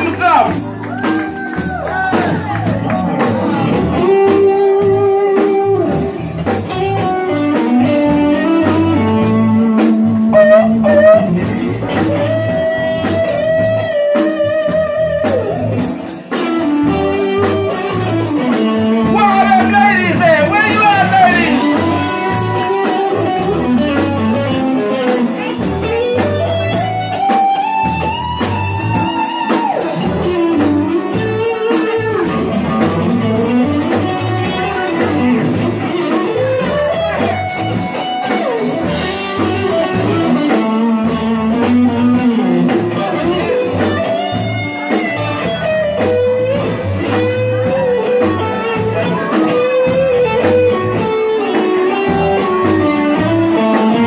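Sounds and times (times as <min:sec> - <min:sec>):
electric guitar bending notes: 0:00.0 - 0:54.0
live band playing: 0:00.0 - 0:54.0.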